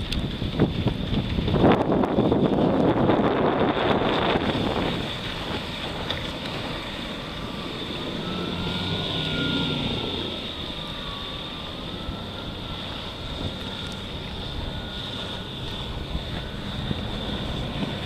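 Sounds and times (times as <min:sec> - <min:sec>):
outboard motor whining: 0:00.0 - 0:18.0
wind noise: 0:00.0 - 0:18.0.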